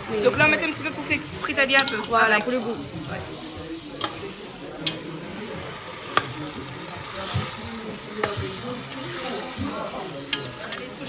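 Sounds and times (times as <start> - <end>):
shrimp sizzling in pot: 0.0 - 11.0.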